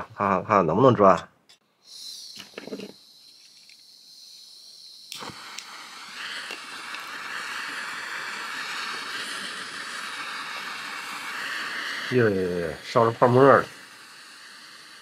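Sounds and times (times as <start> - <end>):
flame hissing: 1.7 - 15.0.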